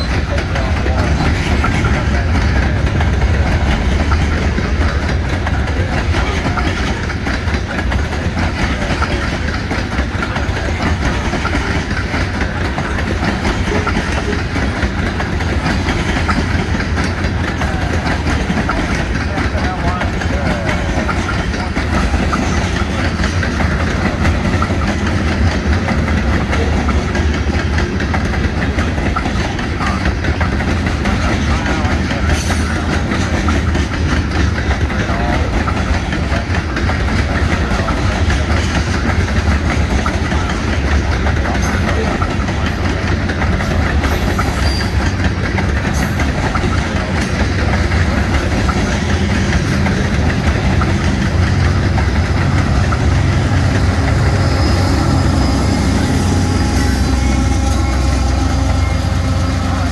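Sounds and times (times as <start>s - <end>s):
locomotive diesel engine: 0.0s - 59.9s
train wheels clacking over rail joints: 0.0s - 59.9s.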